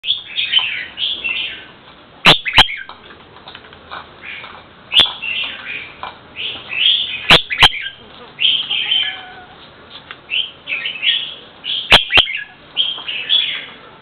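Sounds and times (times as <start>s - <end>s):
bird chirping: 0.0s - 3.0s, 4.2s - 9.3s, 10.3s - 13.8s.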